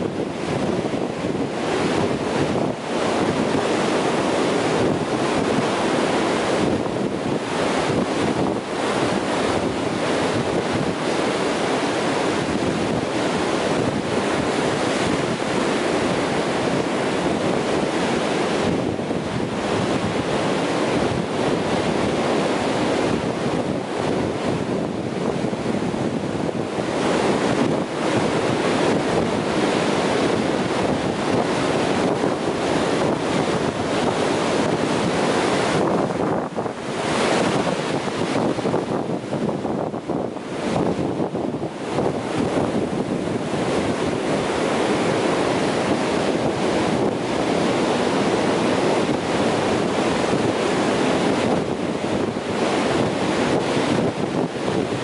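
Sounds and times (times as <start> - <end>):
ocean surf breaking on sand: 0.0 - 55.0.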